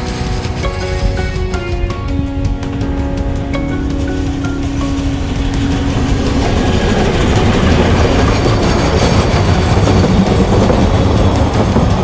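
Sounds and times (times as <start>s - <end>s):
steam train rumbling past: 0.0s - 12.0s
wheels clacking over rail joints: 0.0s - 12.0s.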